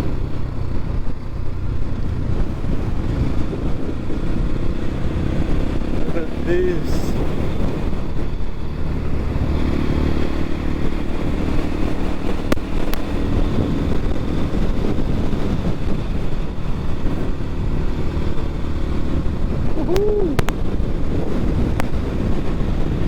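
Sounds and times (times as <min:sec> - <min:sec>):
dirt bike engine running: 0:00.0 - 0:23.0
wind rumble on microphone: 0:00.0 - 0:23.0.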